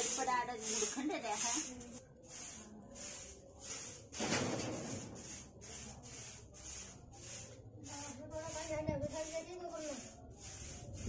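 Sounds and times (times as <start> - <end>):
broom sweeping brick paving: 0.0 - 11.0.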